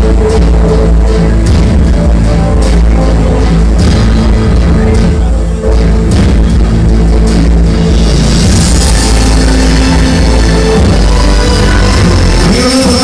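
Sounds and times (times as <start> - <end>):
loud dance music with heavy bass: 0.0 - 13.0.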